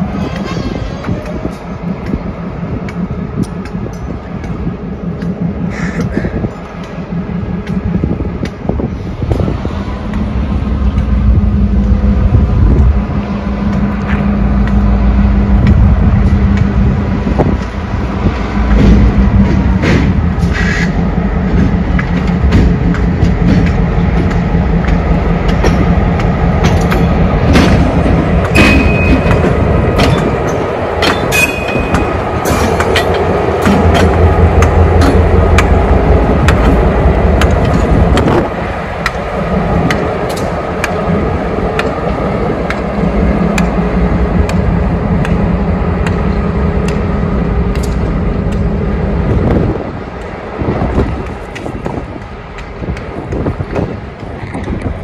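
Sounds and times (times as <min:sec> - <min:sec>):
diesel locomotive engine drone: 0:00.0 - 0:55.0
wheels clicking over rail joints: 0:00.0 - 0:55.0.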